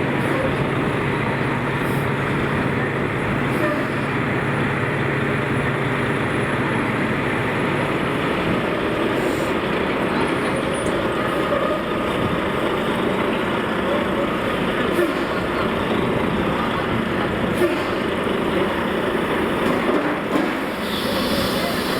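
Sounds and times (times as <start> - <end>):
street traffic noise: 0.0 - 21.9.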